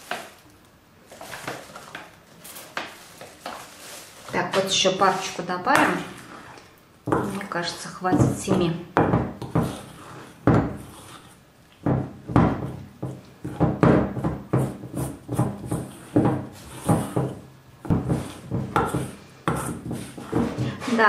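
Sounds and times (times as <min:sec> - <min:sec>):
utensil stirring dough in a bowl: 0:01.1 - 0:21.0.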